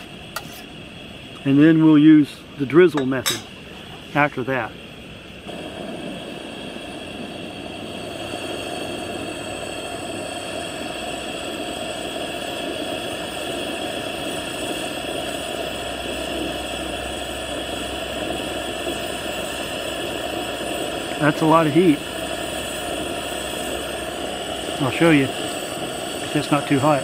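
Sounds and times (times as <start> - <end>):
gas stove burner rushing: 0.0 - 27.0
water boiling: 0.0 - 27.0.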